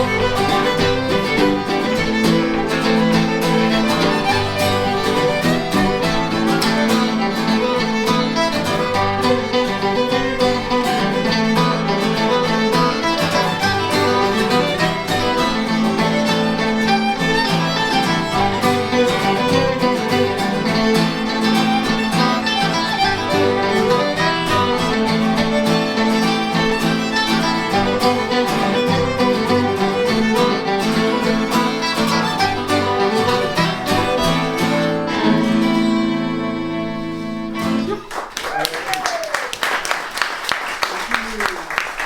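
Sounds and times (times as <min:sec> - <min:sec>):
strummed electric guitar: 0:00.0 - 0:38.1
fiddle playing: 0:00.0 - 0:38.3.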